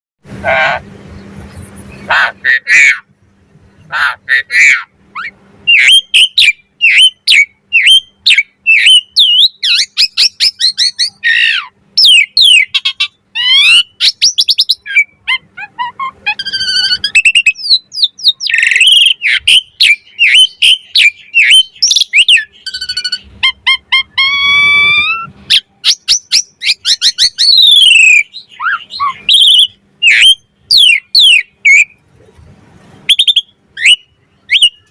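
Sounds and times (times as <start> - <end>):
starling whistles and chirps: 5.1 - 32.0, 33.1 - 34.9.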